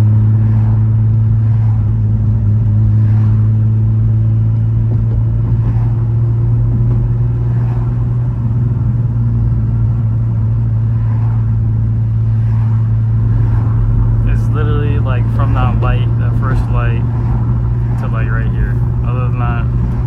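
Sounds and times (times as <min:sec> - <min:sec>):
car engine cruising: 0:00.0 - 0:20.0
road noise: 0:00.0 - 0:20.0.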